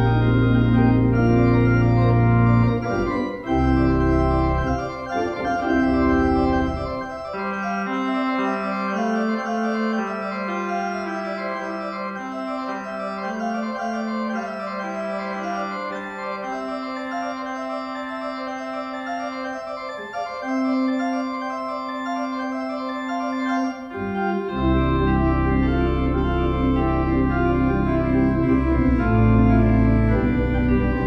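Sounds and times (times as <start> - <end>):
church organ chords: 0.0 - 31.0
deep organ pedal bass: 0.0 - 31.0.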